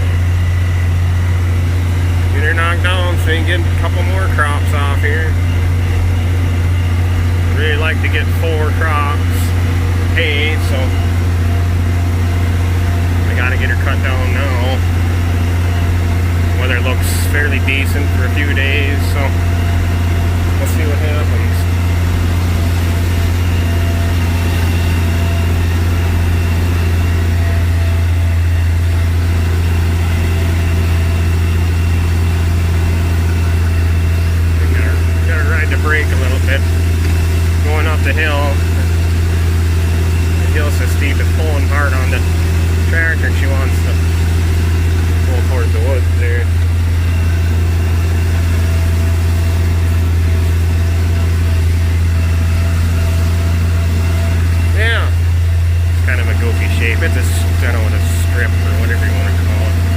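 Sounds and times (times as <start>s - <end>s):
tractor engine drone: 0.0s - 59.9s.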